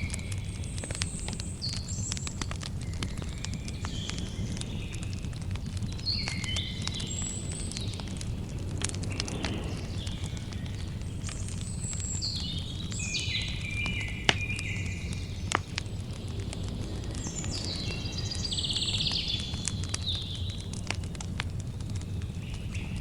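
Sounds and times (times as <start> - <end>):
songbird singing: 0.0 - 21.0, 21.6 - 23.0
campfire crackling: 0.0 - 23.0.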